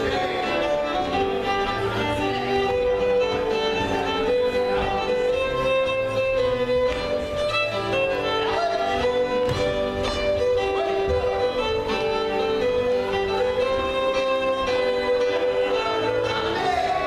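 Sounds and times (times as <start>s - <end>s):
fiddle dance tune: 0.0s - 17.0s.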